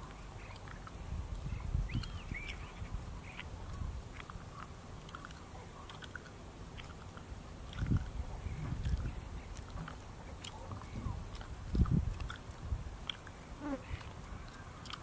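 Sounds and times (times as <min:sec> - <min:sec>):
insect chewing clicks: 0:00.0 - 0:02.6, 0:03.3 - 0:08.2, 0:08.8 - 0:13.4, 0:14.0 - 0:15.0.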